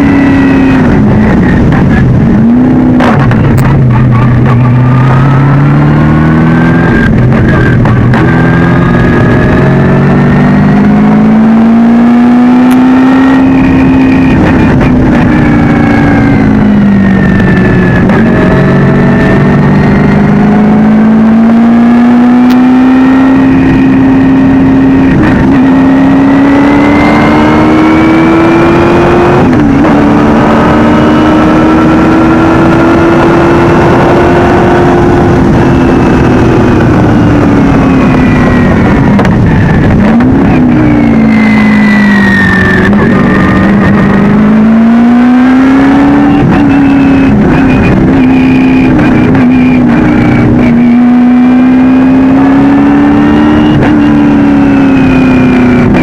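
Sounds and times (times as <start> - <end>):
race car engine under hard load: 0.0 - 56.0.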